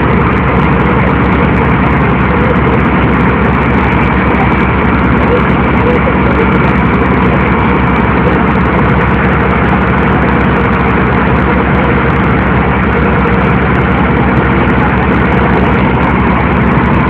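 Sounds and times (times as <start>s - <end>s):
boat engine droning: 0.0s - 17.0s
rushing noise: 0.0s - 17.0s.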